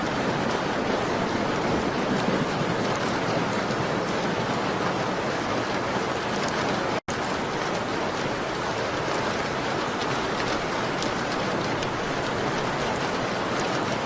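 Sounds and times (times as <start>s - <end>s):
rain on a window: 0.0s - 14.0s.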